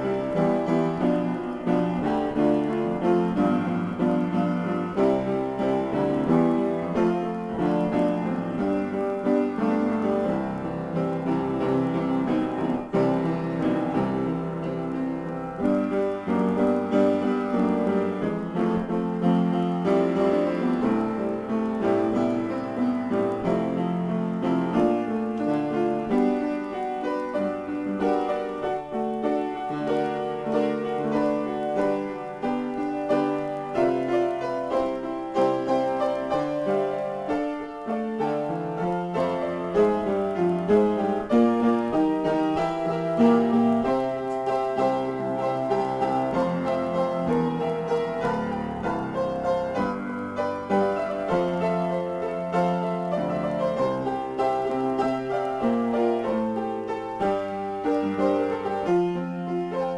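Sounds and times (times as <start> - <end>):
solo piano improvisation: 0.0 - 59.9.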